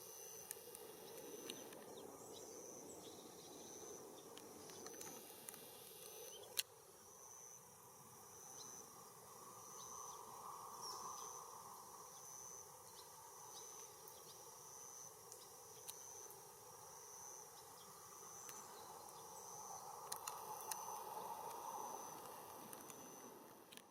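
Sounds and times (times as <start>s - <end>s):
insect chirping: 0.0s - 23.9s.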